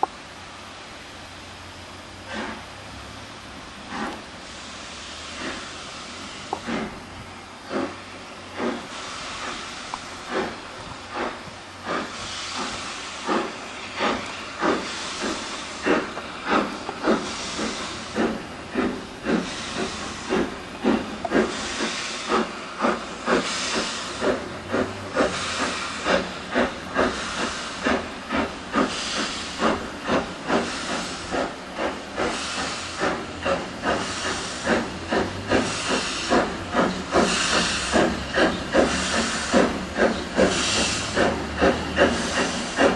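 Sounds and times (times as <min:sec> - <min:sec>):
steady hiss of steam: 0:00.0 - 0:42.9
steam locomotive exhaust beats: 0:00.0 - 0:42.9.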